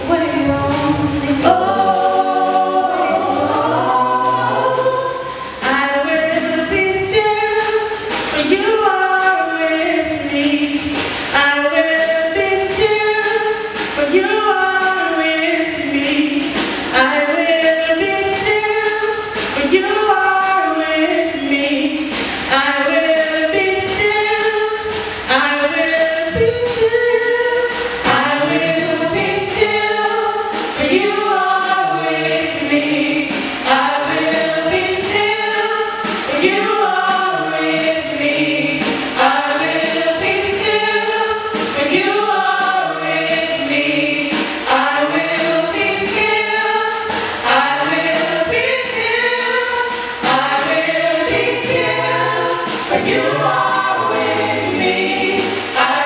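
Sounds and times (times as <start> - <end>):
choir singing gospel: 0.0 - 56.0.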